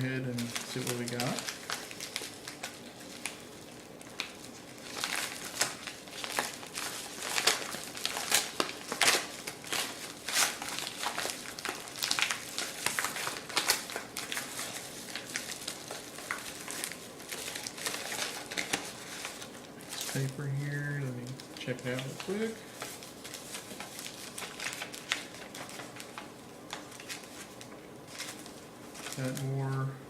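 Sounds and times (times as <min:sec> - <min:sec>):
packaging crinkling and rustling: 0:00.0 - 0:29.9.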